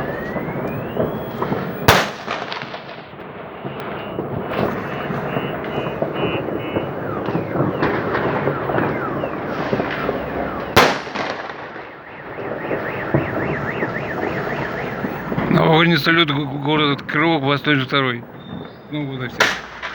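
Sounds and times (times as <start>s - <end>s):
loud firework bang: 0.0s - 16.0s, 18.3s - 19.9s
car alarm wailing: 0.0s - 19.9s
firework whistles: 0.0s - 19.9s
fireworks popping and crackling: 0.0s - 19.9s.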